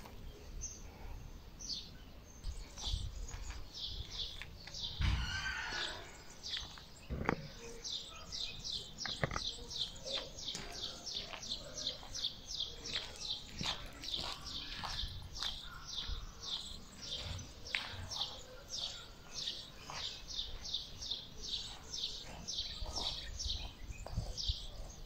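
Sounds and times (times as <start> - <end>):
small bird chirping: 1.6 - 25.0.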